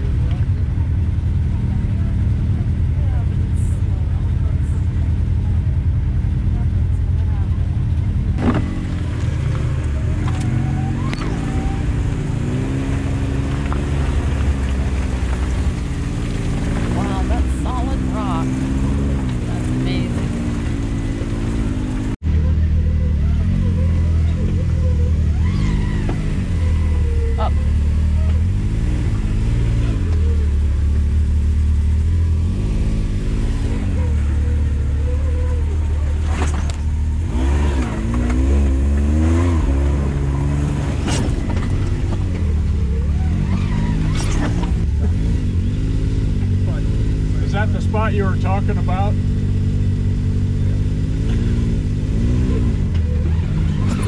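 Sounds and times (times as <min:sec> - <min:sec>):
utility vehicle engine running: 0:00.0 - 0:54.0.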